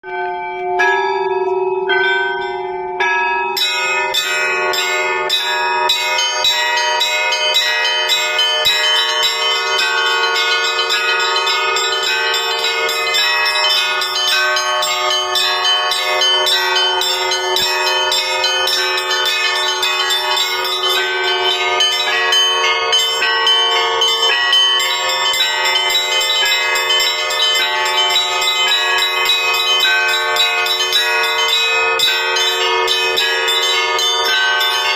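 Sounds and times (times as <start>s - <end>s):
large bell humming: 0.0s - 34.9s
small bells ringing rapidly: 0.2s - 34.9s.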